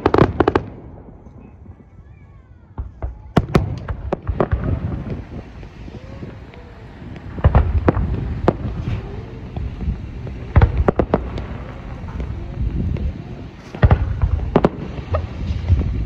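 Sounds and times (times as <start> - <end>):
continuous low rumble: 0.0 - 16.0
fireworks bursting with sharp bangs: 0.0 - 16.0.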